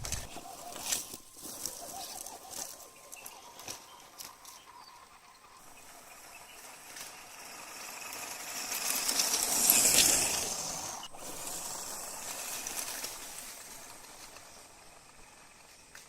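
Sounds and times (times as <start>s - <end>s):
off-road vehicle driving past: 1.6s - 16.0s.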